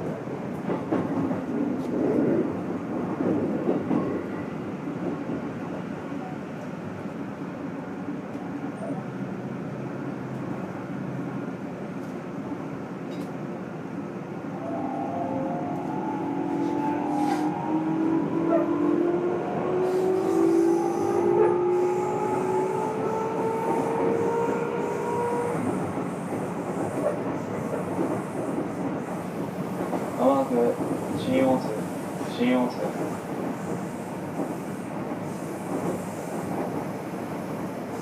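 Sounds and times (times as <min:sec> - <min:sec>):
train wheels on rail hum: 0:00.0 - 0:38.0.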